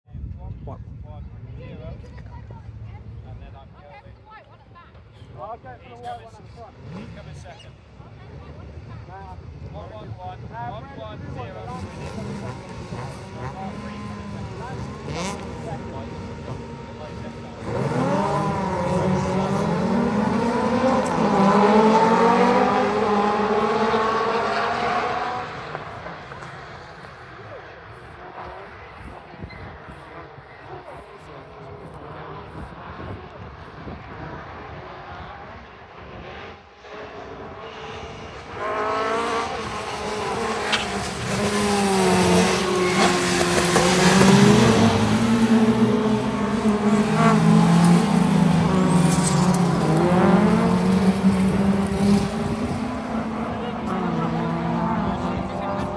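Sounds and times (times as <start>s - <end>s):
race car engines revving: 4.9s - 55.9s.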